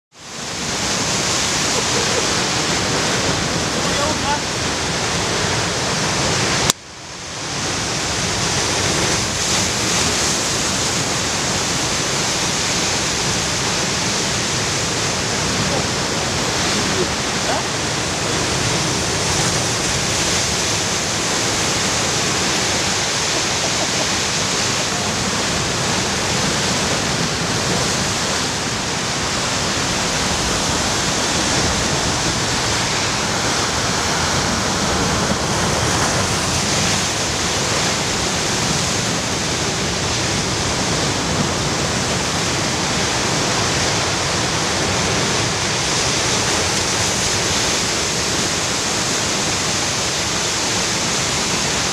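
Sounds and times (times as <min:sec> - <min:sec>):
surf breaking over rocks: 0:00.2 - 0:51.9.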